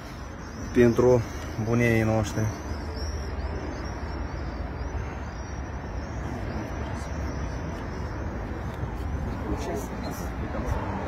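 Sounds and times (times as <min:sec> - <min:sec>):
faint high chirps: 0:00.0 - 0:10.6
road traffic rumble: 0:00.0 - 0:11.0.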